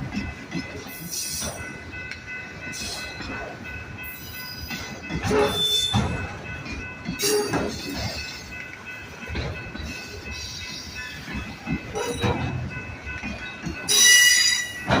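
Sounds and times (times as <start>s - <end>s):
train wheels knocking on rails: 0.0s - 15.0s.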